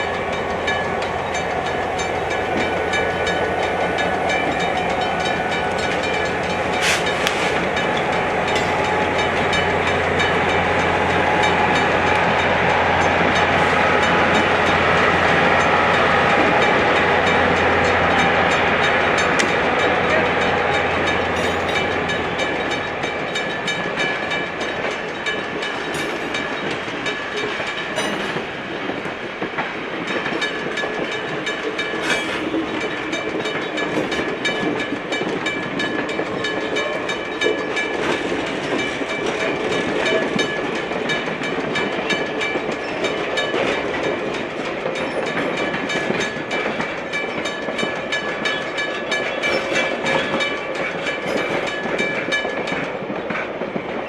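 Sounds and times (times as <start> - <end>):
diesel locomotive rumble: 0.0 - 54.0
train wheels clicking over rails: 0.0 - 54.0.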